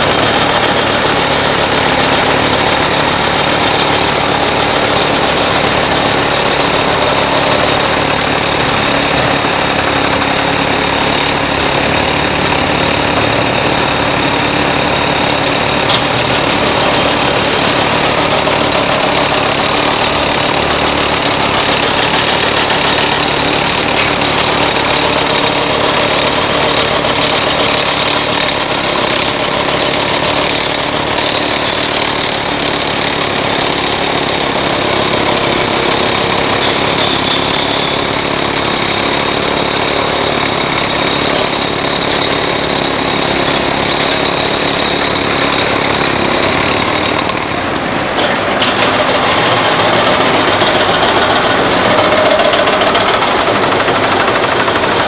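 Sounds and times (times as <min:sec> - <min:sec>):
dump truck diesel engine: 0:00.0 - 0:55.0
excavator diesel engine: 0:00.0 - 0:55.0.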